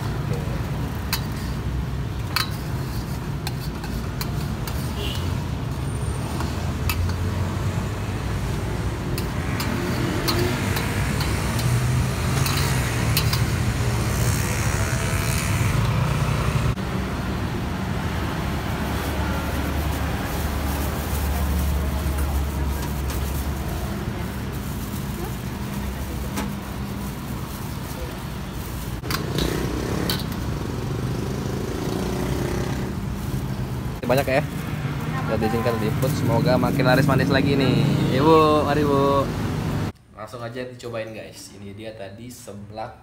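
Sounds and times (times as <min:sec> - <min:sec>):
road traffic rumble: 0:00.0 - 0:40.1.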